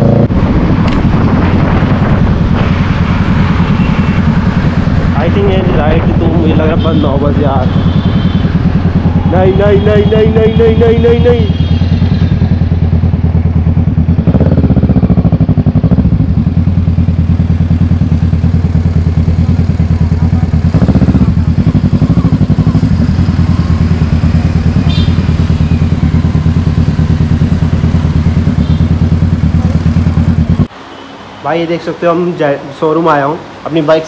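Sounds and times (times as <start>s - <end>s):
motorcycle engine running: 0.0s - 30.8s.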